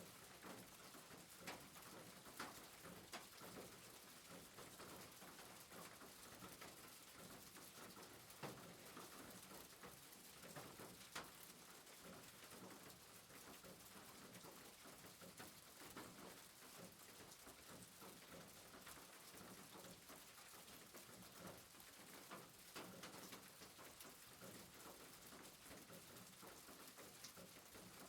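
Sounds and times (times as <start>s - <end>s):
soft rain pattering: 0.0s - 28.0s.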